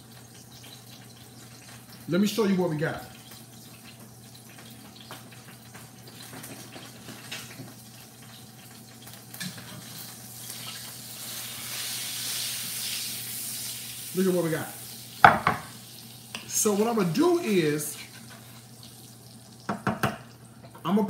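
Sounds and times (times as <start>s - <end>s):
garlic sizzling in a skillet: 0.0s - 21.0s.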